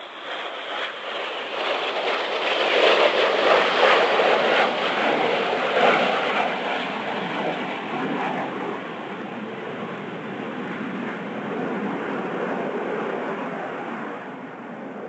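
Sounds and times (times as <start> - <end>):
jets flying past roaring: 0.0 - 15.0.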